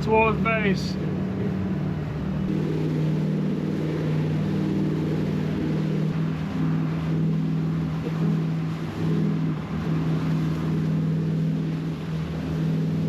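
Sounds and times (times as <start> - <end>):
outboard engine running: 0.0 - 13.0.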